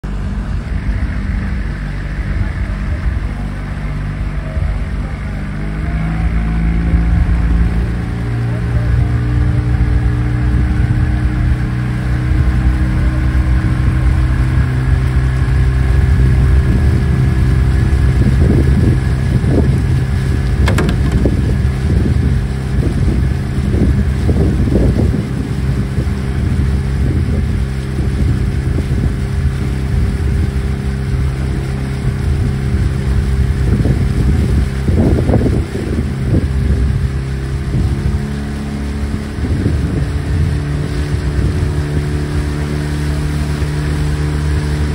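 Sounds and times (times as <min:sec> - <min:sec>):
motorboat engine drone: 0:00.0 - 0:44.9.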